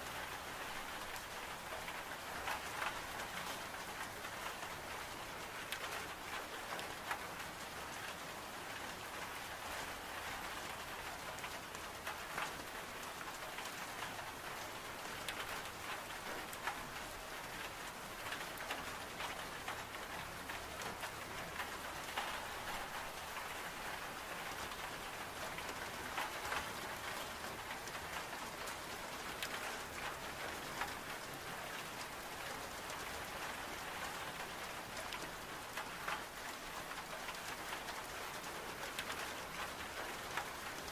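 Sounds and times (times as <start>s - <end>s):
heavy rain on window glass: 0.0s - 40.9s.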